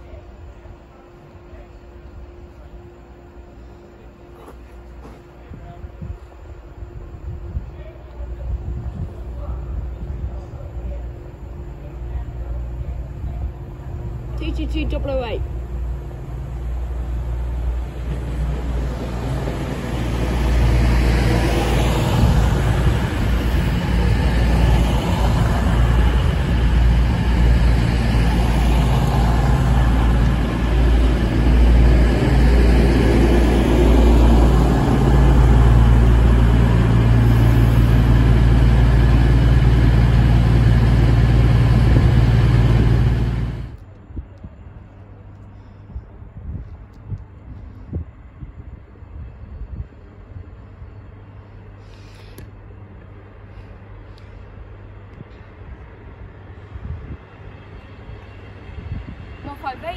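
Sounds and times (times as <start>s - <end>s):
train diesel engines droning: 0.0s - 59.9s
train wheels rumbling on rail: 0.0s - 59.9s.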